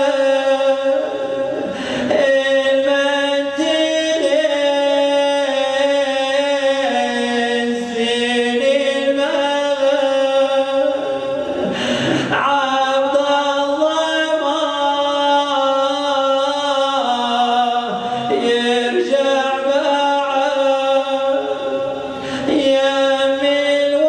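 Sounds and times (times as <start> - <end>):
man chanting into a microphone: 0.0 - 24.0.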